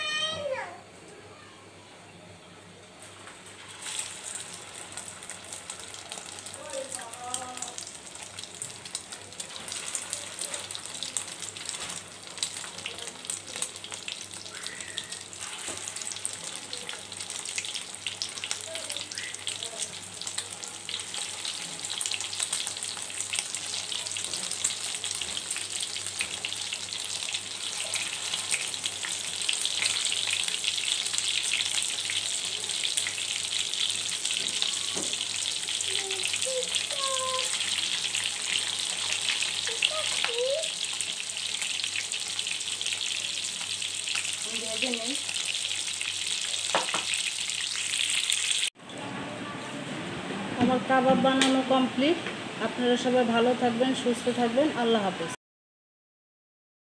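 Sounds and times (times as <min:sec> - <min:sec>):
patties sizzling in oil: 0:02.9 - 0:48.8.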